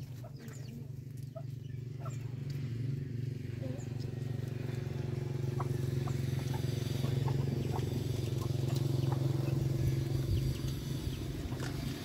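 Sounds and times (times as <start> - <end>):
engine pulsing hum: 0.0 - 12.0.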